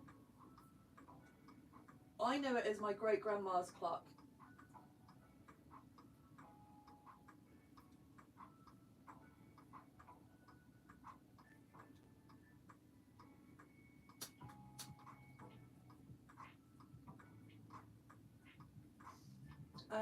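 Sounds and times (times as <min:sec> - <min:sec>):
mechanical clock ticking: 0:00.0 - 0:20.0.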